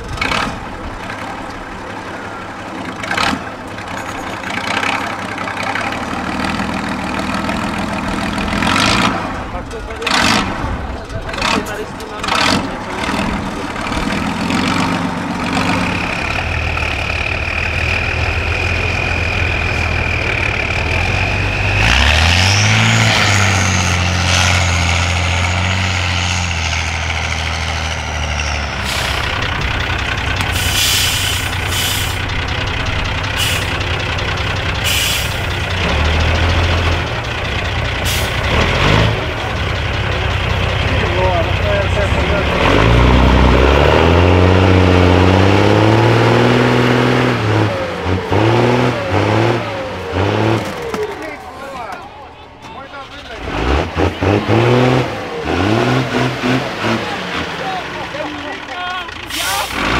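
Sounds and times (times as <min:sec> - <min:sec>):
diesel truck engines: 0:00.0 - 0:59.9
engine revving with whine: 0:04.5 - 0:33.9, 0:38.0 - 0:51.5, 0:53.3 - 0:58.0, 0:59.3 - 0:59.9.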